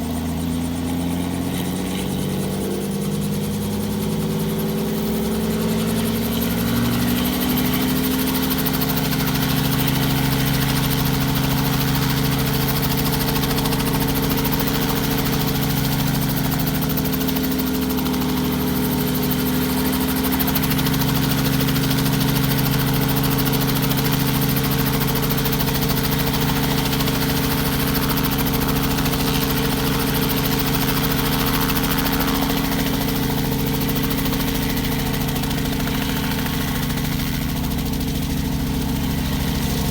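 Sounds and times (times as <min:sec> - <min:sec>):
helicopter piston engine running: 0:00.0 - 0:39.9.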